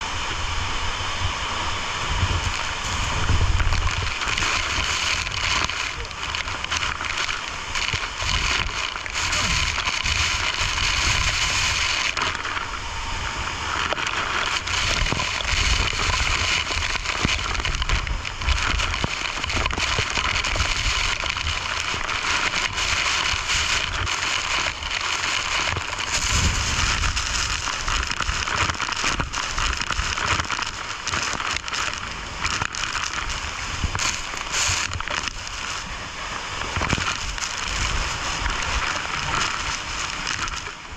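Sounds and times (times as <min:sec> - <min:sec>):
low rumble: 0:00.0 - 0:40.9
waterfall roaring: 0:00.0 - 0:40.9.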